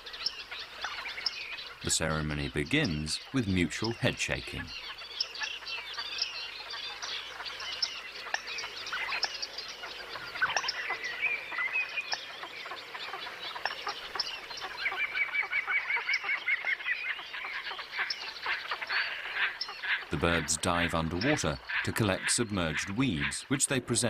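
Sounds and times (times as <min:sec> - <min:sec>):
grebes calling: 0:00.0 - 0:24.0.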